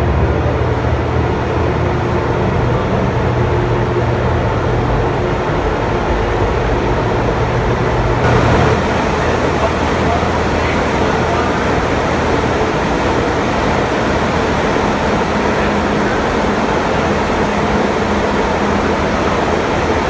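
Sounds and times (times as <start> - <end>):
turbine generators humming: 0.0 - 20.0.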